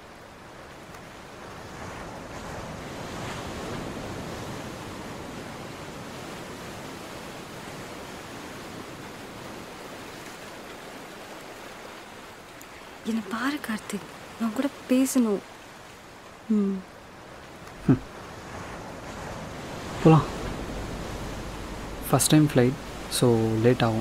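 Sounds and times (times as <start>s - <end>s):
sea surf washing up beach: 0.0s - 24.0s.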